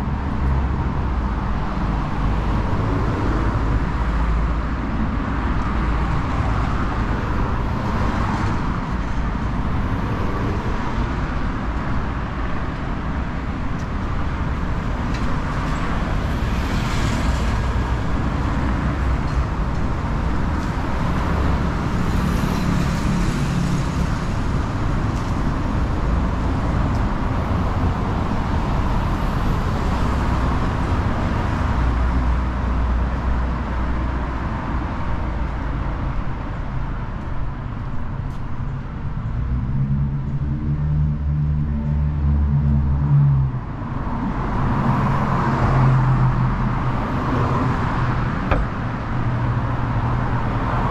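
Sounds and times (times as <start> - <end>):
cars passing on a street: 0.0 - 50.9
loud vehicles going by: 0.0 - 50.9.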